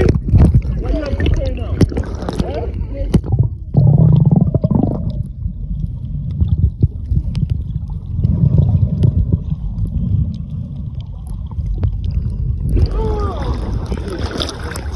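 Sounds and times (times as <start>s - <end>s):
underwater water rush: 0.0s - 14.9s.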